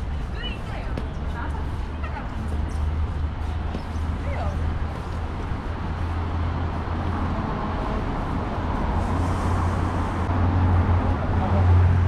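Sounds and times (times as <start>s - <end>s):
cars passing on wet street: 0.0s - 12.0s.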